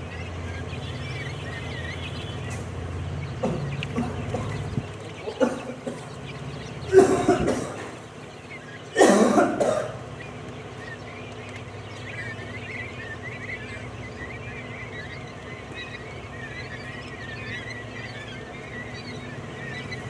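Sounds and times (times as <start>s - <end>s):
quail chirping faintly: 0.0s - 20.0s.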